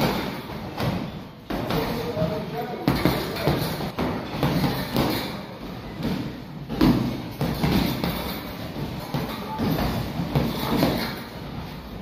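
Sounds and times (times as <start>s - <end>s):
punches thudding on heavy bag: 0.0s - 11.5s.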